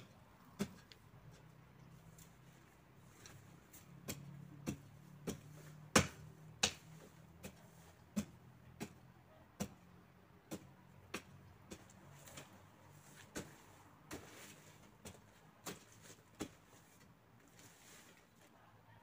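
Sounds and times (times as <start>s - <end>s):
garden hoe striking soil: 0.0s - 1.5s, 3.1s - 18.2s.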